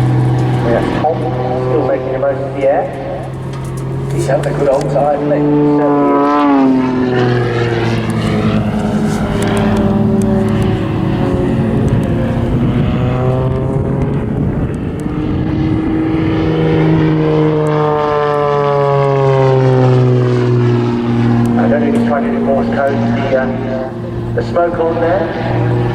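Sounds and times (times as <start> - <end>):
propeller aircraft engine: 0.0 - 25.9.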